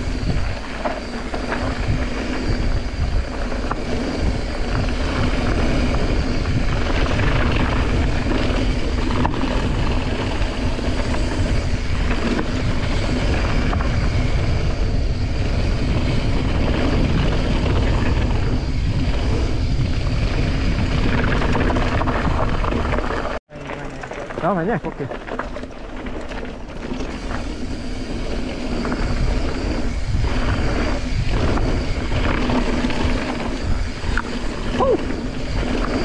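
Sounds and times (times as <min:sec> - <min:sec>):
bike clicks and rattles: 0:00.0 - 0:36.0
bike tyres rumbling on gravel: 0:00.0 - 0:36.0
wind buffeting microphone: 0:00.0 - 0:36.0.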